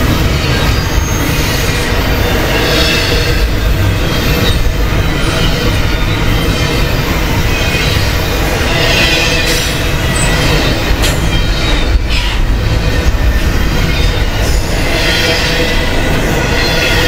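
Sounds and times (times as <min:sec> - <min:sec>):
high wheel squeal: 0:00.0 - 0:17.0
train clanks: 0:00.0 - 0:17.0
train wheels rumbling on rail: 0:00.0 - 0:17.0.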